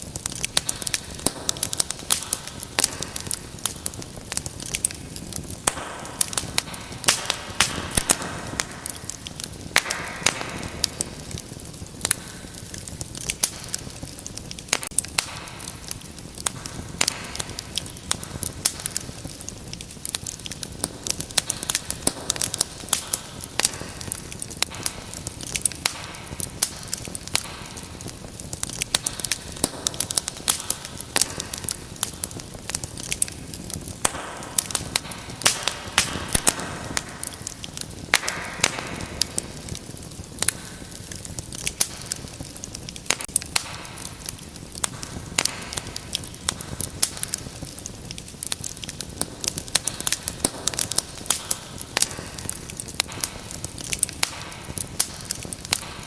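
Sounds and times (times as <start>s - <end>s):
fire pops and snaps: 0.0s - 56.0s
wood fire crackling: 0.0s - 56.0s.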